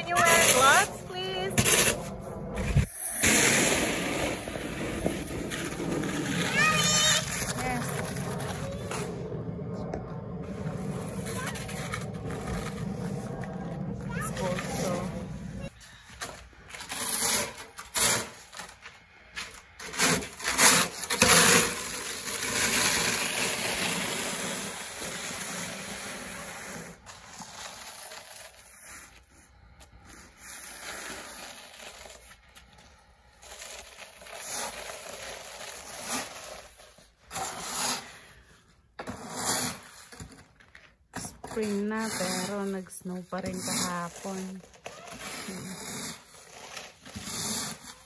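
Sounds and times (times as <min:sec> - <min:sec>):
snow shovel scraping on concrete: 0:00.0 - 0:48.0.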